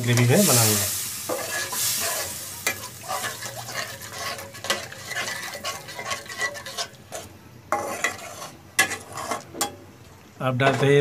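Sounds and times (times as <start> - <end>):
spatula scraping metal pan: 0.0 - 9.8, 10.5 - 11.0
gravy sizzling: 0.0 - 11.0.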